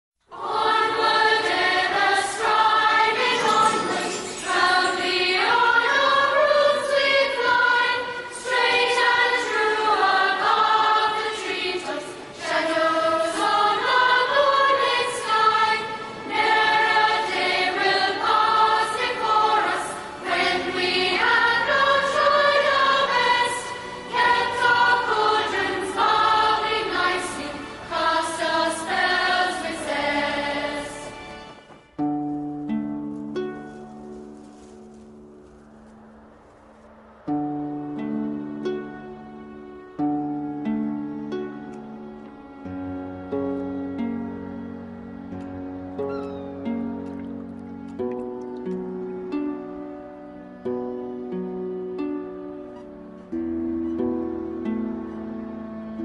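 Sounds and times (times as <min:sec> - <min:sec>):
choir singing with music: 0:00.2 - 0:56.0.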